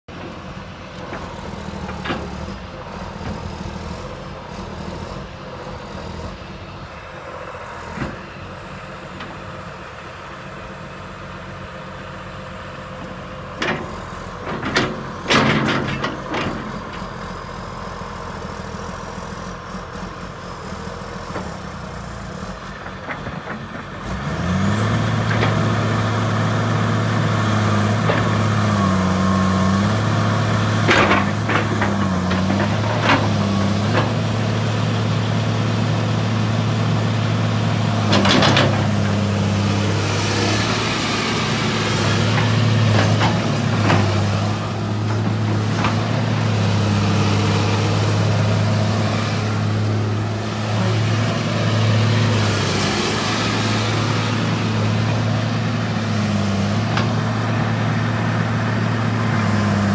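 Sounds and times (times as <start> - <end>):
excavator diesel engine running: 0.1 - 59.9.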